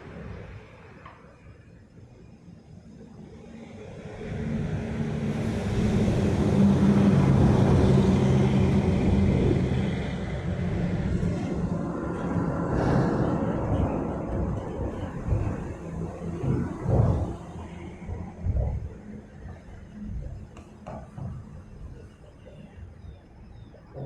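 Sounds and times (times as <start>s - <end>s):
low engine hum: 0.0s - 24.0s
vehicle rumbling over bridge: 3.3s - 24.0s.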